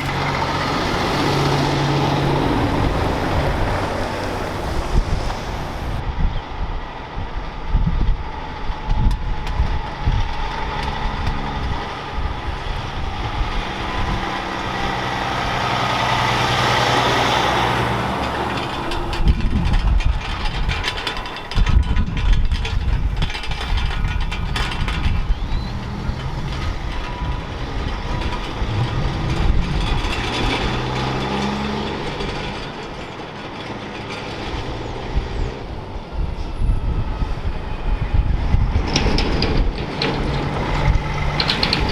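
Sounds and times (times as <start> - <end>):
heavy diesel trucks driving by: 0.0 - 6.0, 10.7 - 41.9
tyre and road noise: 0.0 - 41.9.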